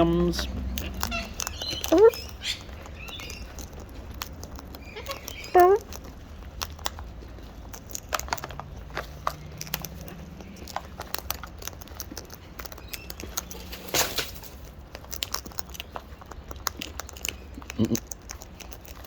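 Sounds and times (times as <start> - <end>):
birds cracking seed: 0.0 - 19.0.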